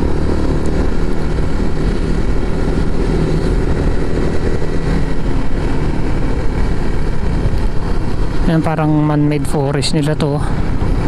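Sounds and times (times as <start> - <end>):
low wind rumble: 0.0 - 11.0
motorcycle engine hum: 0.0 - 11.0.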